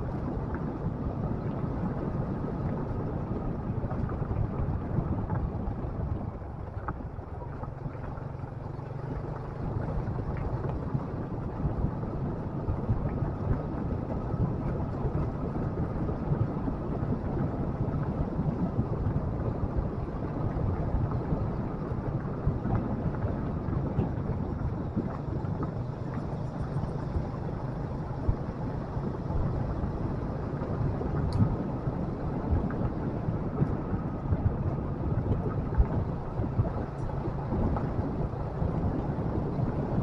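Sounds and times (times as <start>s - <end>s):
wind and road noise: 0.0s - 40.0s.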